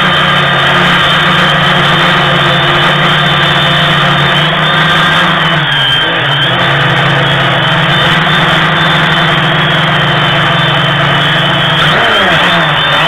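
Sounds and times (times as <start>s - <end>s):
drone motors buzzing: 0.0s - 13.0s.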